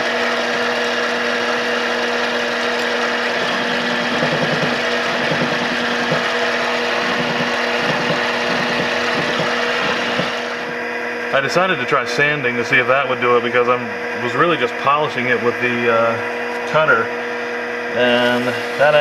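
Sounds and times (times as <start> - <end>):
metal lathe whining: 0.0 - 19.0.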